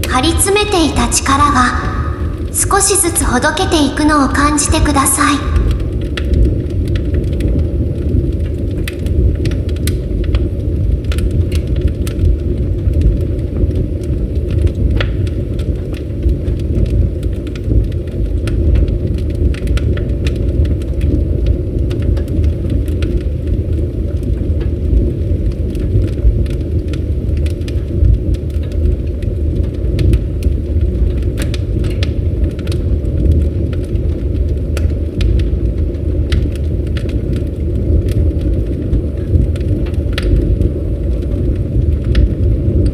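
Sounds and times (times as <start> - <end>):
low rumble of flames: 0.0 - 42.9
fire crackling and popping: 4.3 - 42.9.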